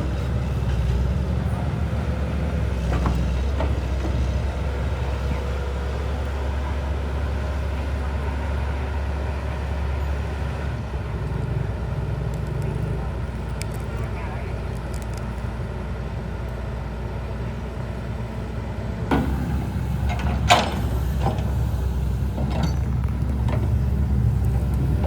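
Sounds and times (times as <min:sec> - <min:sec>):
heavy engine rumbling: 0:00.0 - 0:25.0.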